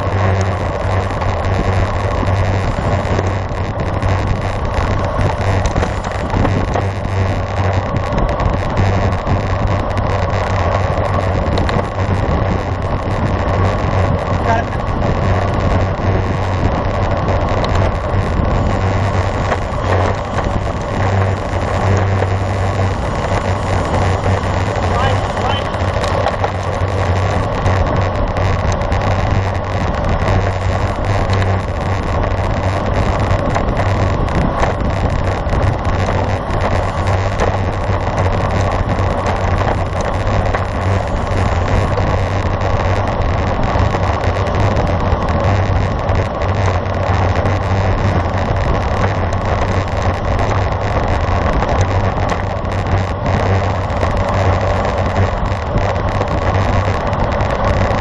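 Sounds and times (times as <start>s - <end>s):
bicycle tyre road noise: 0.0s - 58.0s
wind on microphone: 0.0s - 58.0s.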